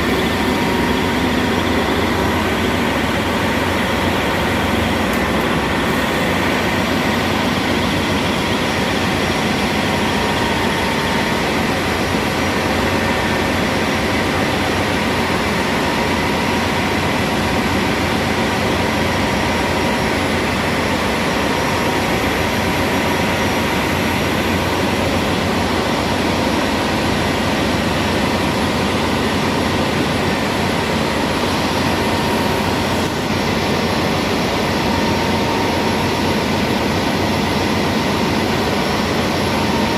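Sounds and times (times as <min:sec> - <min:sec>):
engine-room machinery drone: 0:00.0 - 0:39.9
machinery whining tones: 0:00.0 - 0:39.9.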